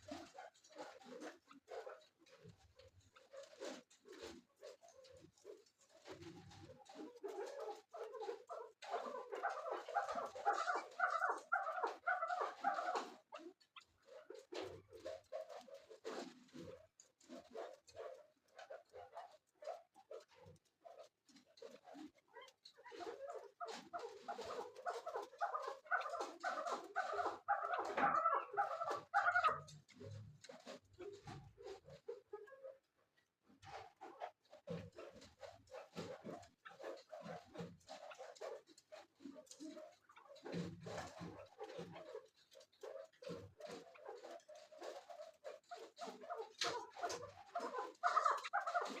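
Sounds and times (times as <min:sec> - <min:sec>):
partridge clucking calls: 0:00.0 - 0:32.8, 0:33.6 - 0:49.0.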